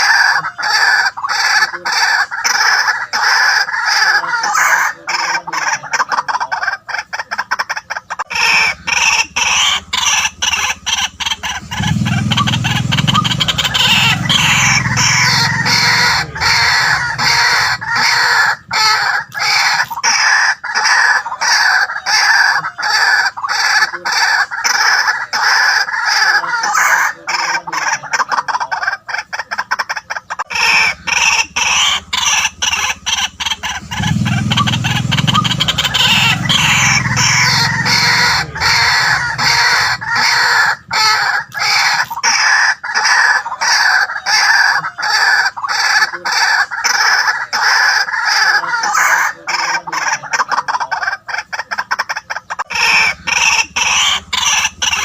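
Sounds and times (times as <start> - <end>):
waterhens calling harshly: 0.0 - 55.0.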